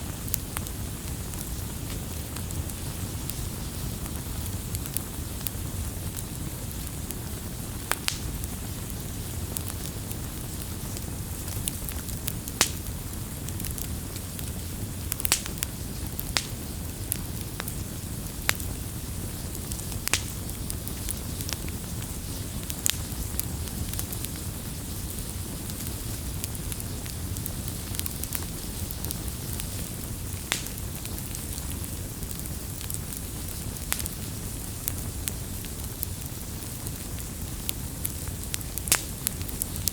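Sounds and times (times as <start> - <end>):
campfire crackling: 0.0 - 39.9
pops and snaps of fire: 0.1 - 39.9.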